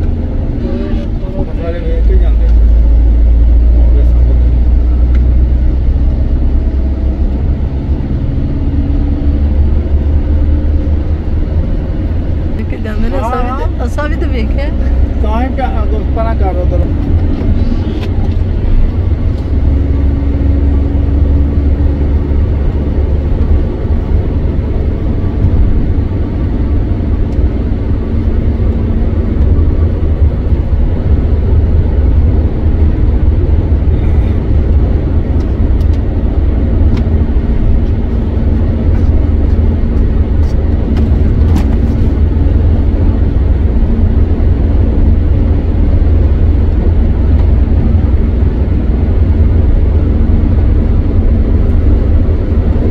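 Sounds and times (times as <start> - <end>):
car driving on wet road: 0.0 - 52.9.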